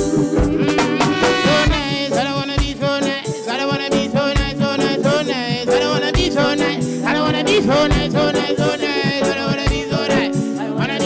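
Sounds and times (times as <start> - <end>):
live reggae band: 0.0 - 11.0
man singing into a microphone: 0.6 - 11.0.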